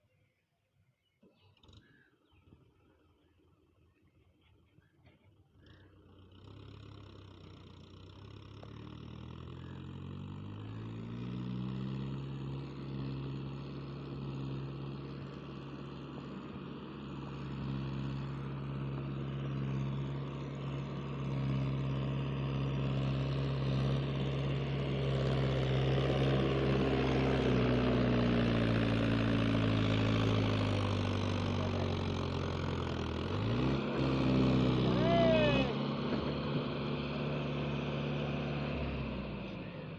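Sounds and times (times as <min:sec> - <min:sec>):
heavy diesel engine running: 0:06.0 - 0:39.9.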